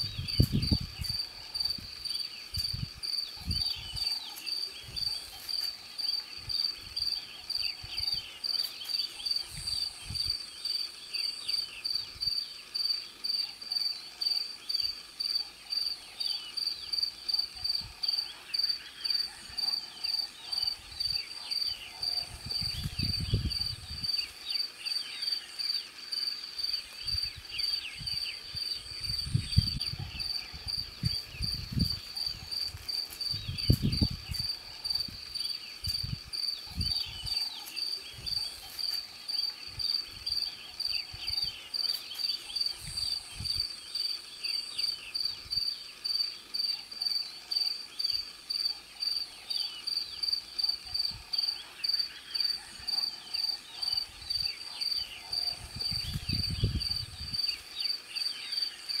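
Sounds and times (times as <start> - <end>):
cricket chirping: 0.0 - 59.0
faint insect chirps and calls: 0.0 - 59.0.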